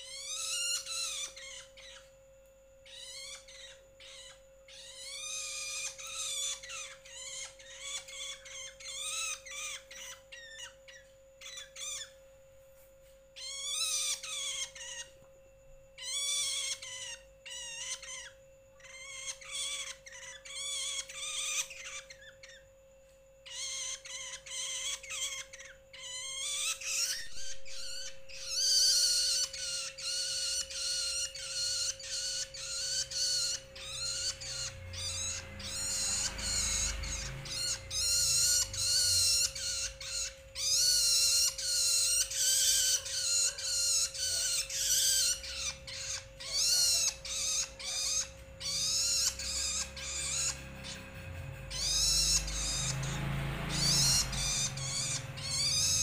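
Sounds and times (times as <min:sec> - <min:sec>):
faint steady hum: 0:00.0 - 0:56.0
juvenile bird begging calls: 0:02.8 - 0:12.2, 0:13.4 - 0:15.2, 0:16.0 - 0:22.6, 0:23.4 - 0:56.0.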